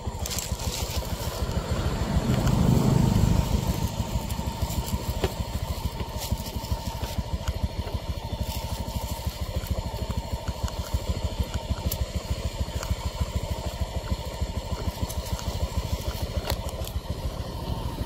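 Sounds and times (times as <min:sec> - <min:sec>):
small engine puttering: 0:00.0 - 0:18.0.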